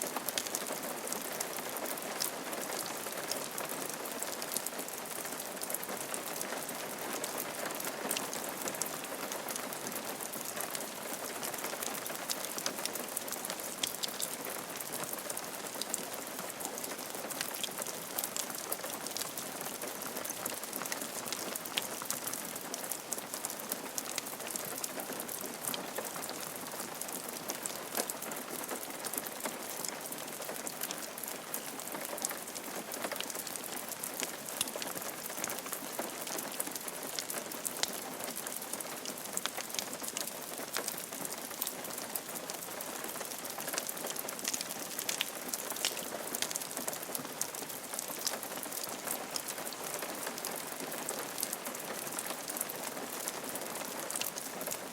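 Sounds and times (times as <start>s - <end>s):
rain falling on a roof: 0.0s - 54.9s.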